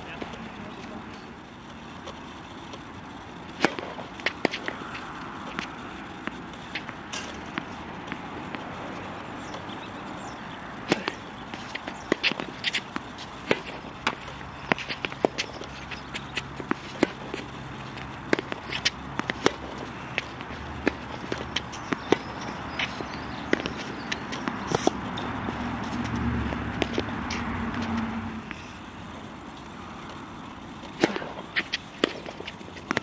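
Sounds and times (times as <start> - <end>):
tennis balls struck by racquets: 0.1 - 28.6, 29.2 - 33.0
tennis balls bouncing on hard court: 2.0 - 28.1, 29.5 - 33.0.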